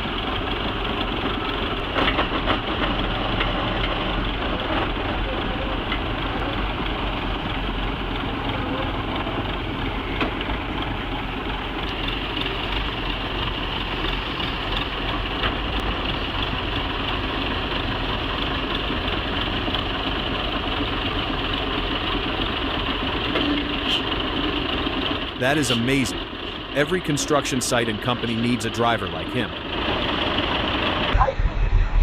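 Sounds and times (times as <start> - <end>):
heavy vehicle engine running: 0.0 - 32.0.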